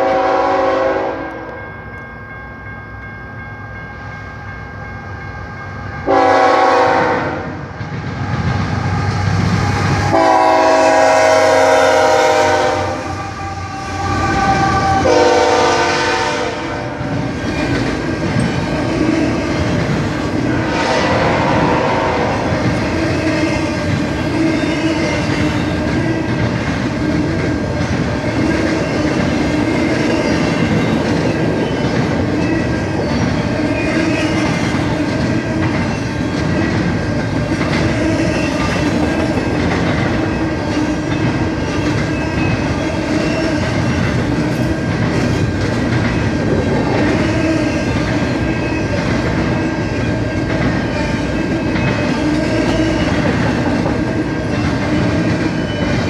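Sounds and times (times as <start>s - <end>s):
train wheels clacking over rail joints: 6.1s - 56.0s.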